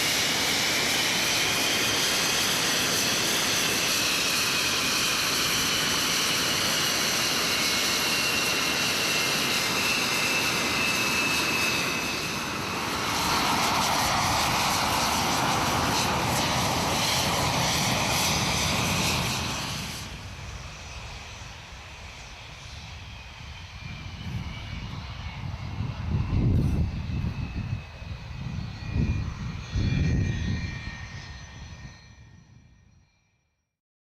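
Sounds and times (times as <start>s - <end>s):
jet exhaust rush: 0.0s - 31.9s
jet engine whine: 0.0s - 33.7s.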